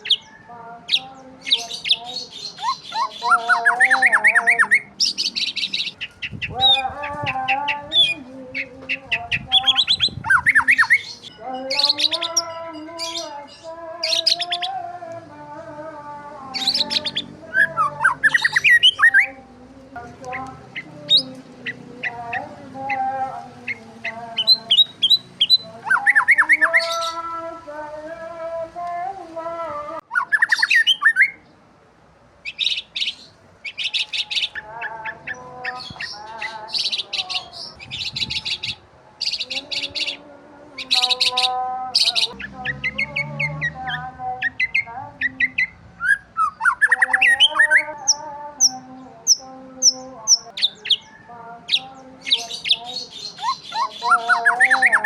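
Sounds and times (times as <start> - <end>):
birds chirping and squawking: 0.0 - 14.9, 16.3 - 27.4, 30.0 - 31.5, 32.4 - 55.0.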